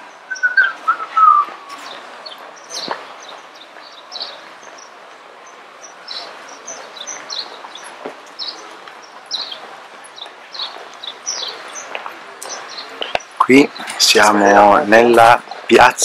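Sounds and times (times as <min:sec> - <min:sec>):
small birds chirping: 0:00.0 - 0:16.0
steady background noise: 0:00.0 - 0:16.0.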